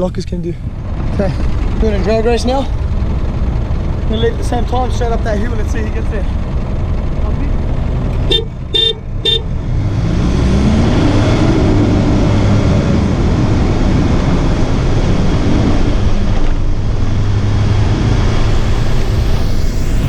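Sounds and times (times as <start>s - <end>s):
engines revving under load: 0.6s - 20.0s.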